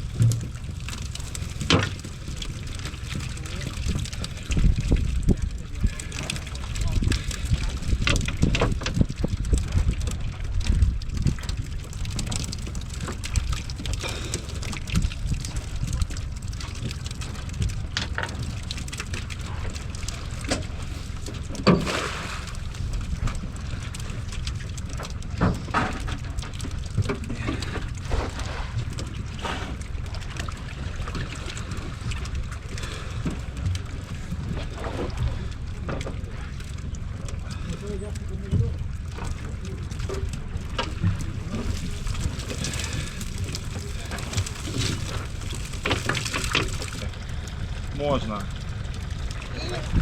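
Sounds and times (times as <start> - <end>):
knocks and splashes: 0.0 - 50.0
wind rumbling on microphone: 0.0 - 50.0.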